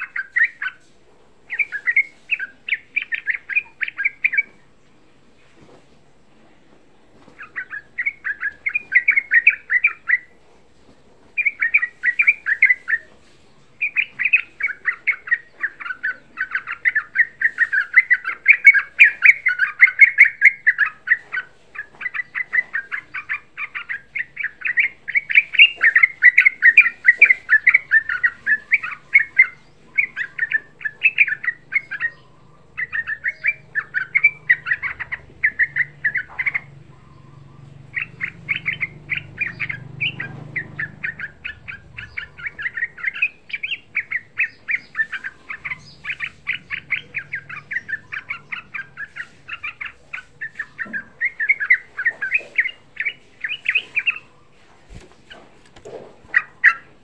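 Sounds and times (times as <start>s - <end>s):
bird singing bubbling chatter: 0.0s - 5.3s, 6.4s - 10.4s, 11.3s - 57.0s.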